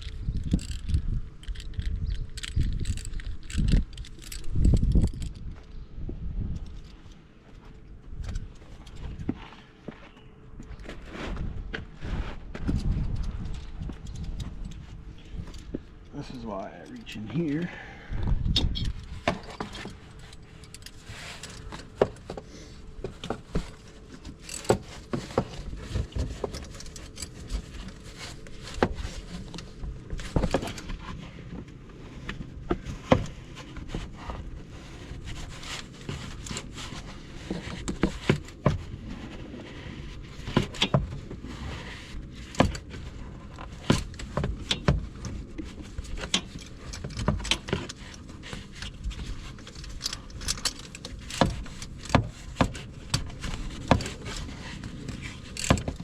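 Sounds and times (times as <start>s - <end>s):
hand tools clicking and scraping: 0.0s - 5.8s, 12.2s - 17.8s, 18.7s - 56.0s.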